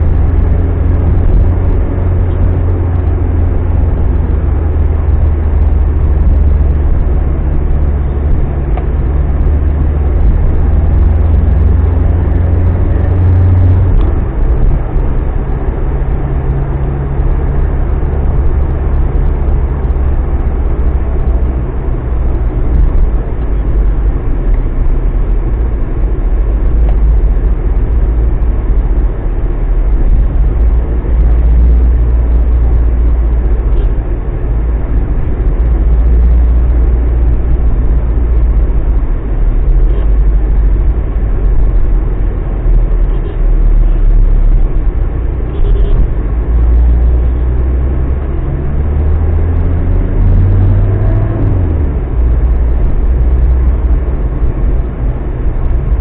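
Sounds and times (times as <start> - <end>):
diesel engine rumbling: 0.0 - 56.0
road noise: 0.0 - 56.0.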